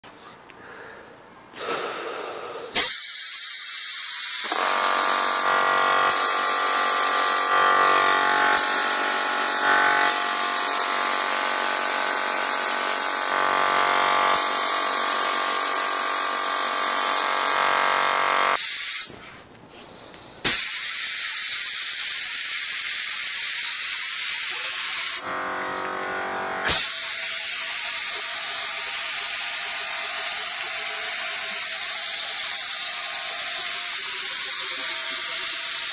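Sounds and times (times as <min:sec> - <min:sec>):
paint spray gun hissing: 0:02.7 - 0:19.2, 0:20.5 - 0:35.9.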